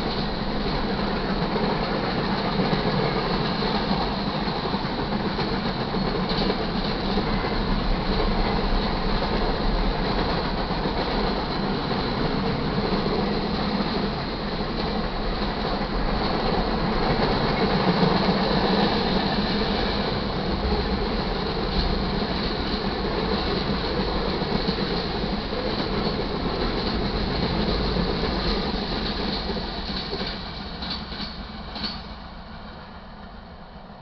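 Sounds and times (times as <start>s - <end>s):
train wheels clacking on rails: 0.0s - 32.7s.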